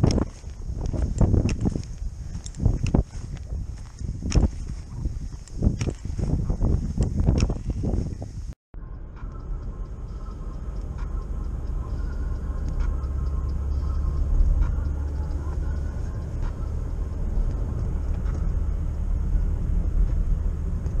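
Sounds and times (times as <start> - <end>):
engine and tyres rumbling: 0.0 - 21.0.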